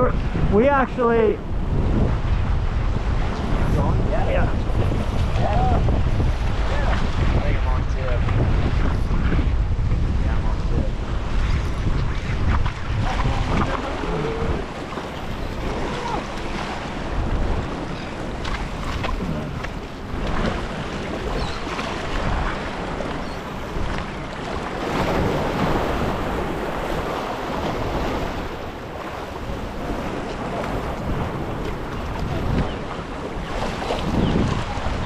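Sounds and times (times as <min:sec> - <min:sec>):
waves breaking against rocks: 0:00.0 - 0:35.0
wind buffeting microphone: 0:00.0 - 0:35.0.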